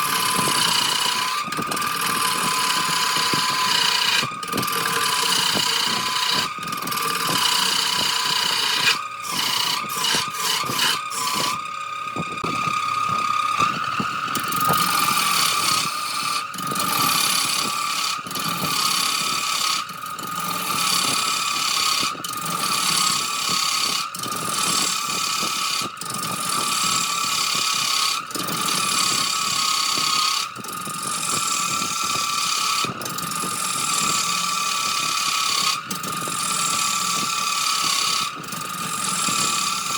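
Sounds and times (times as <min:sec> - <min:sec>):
turning tool scraping wood: 0:00.0 - 0:39.9
wood lathe whining: 0:00.0 - 0:39.9.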